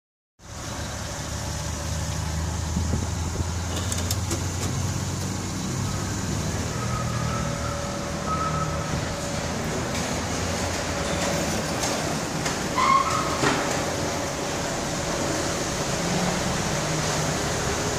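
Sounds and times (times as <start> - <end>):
car engine idling: 0.4 - 17.9.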